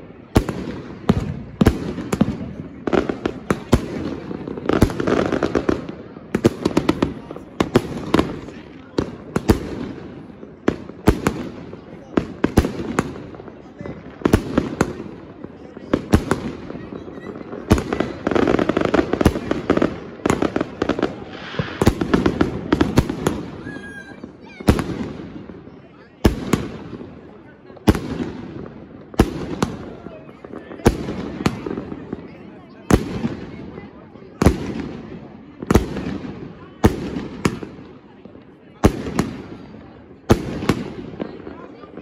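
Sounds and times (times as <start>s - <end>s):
firework bangs overhead: 0.0s - 42.0s.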